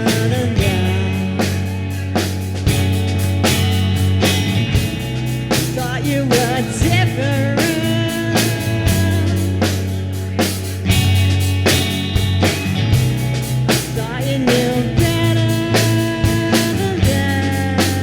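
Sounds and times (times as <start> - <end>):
bass and guitar: 0.0 - 18.0
bending lead guitar line: 0.0 - 18.0
drum kit beat: 0.0 - 18.0.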